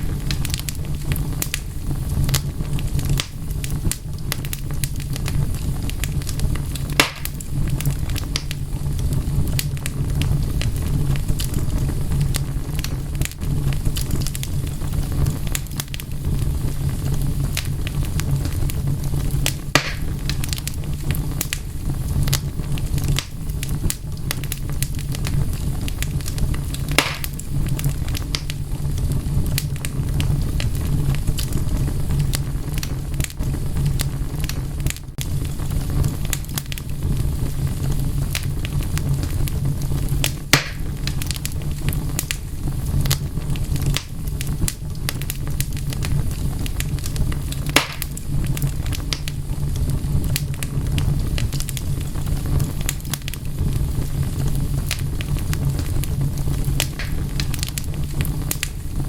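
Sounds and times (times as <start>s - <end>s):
sharp fire pops: 0.0s - 59.0s
wood fire crackling: 0.0s - 59.0s.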